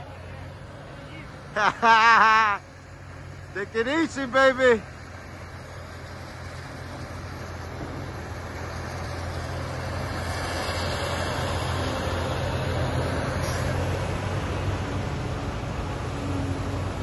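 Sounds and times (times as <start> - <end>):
heavy diesel engines droning: 0.0 - 17.0.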